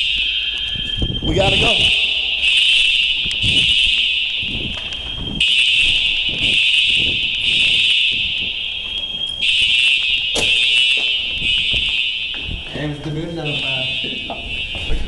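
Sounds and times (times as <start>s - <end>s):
fire alarm tone: 0.0s - 15.0s.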